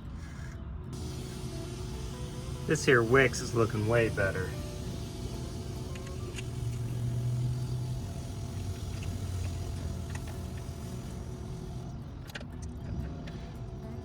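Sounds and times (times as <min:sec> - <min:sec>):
truck engine idling: 0:01.0 - 0:14.0.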